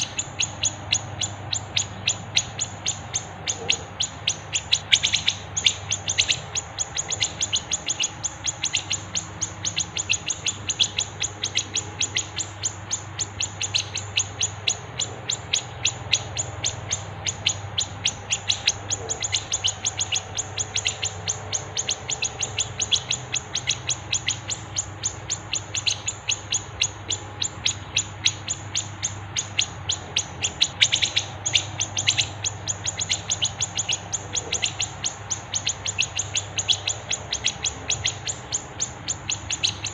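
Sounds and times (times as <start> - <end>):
faint low hum: 0.0 - 39.9
songbird chirping: 0.0 - 39.9.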